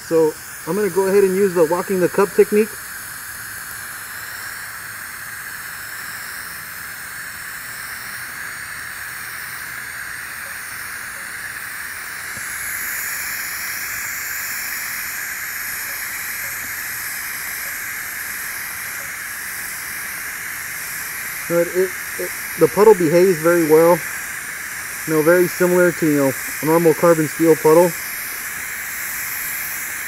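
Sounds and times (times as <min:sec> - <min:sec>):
welding arc hissing: 0:00.0 - 0:30.0.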